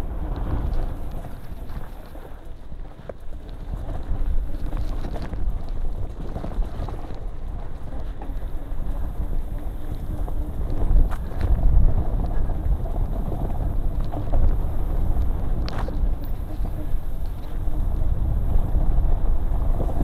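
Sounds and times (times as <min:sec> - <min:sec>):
bike rattling over bumps: 0:00.0 - 0:20.0
wind on microphone: 0:00.0 - 0:20.0.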